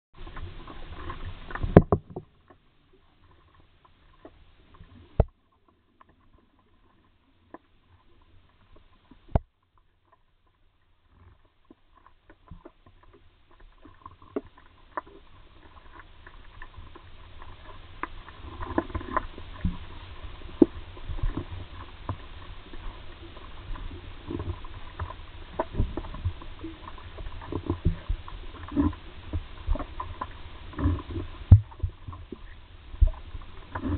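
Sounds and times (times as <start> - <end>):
crackles and thumps: 0.2 - 33.9
low rumble of sloshing water: 0.2 - 33.9
muffled underwater water movement: 0.2 - 33.9.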